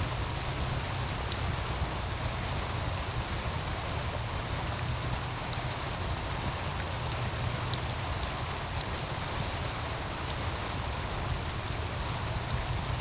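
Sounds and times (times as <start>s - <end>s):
stream rushing: 0.0s - 13.0s
wood fire crackling: 0.0s - 13.0s.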